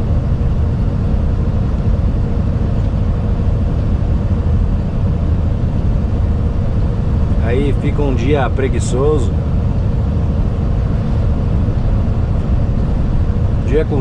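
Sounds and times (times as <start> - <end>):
faint constant hum: 0.0 - 14.0
truck engine and road rumble: 0.0 - 14.0.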